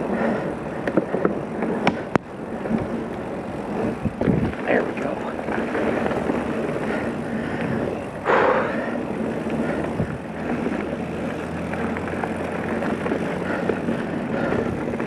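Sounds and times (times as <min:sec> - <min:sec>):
bike rattling: 0:00.0 - 0:15.0
tyres rolling on dirt: 0:00.0 - 0:15.0
wind rushing over microphone: 0:00.0 - 0:15.0.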